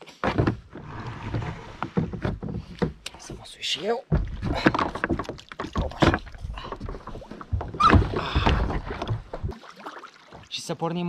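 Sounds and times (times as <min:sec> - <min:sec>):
knocks and scrapes on plastic hull: 0:00.2 - 0:09.5.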